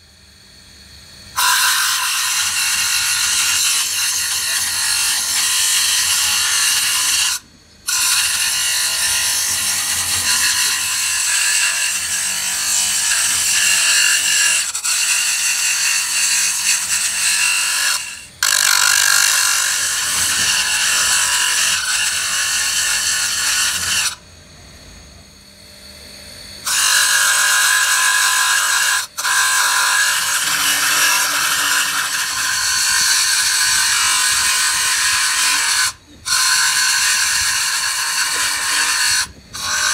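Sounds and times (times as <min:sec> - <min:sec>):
grinding wheel on metal: 0:01.3 - 0:24.2, 0:26.6 - 0:39.9.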